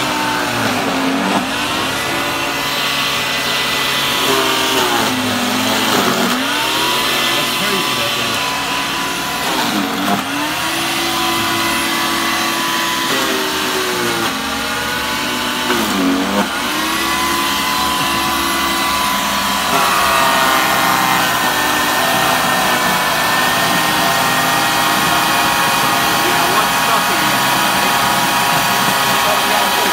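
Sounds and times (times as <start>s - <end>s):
chipper-shredder grinding fish: 0.0s - 29.9s.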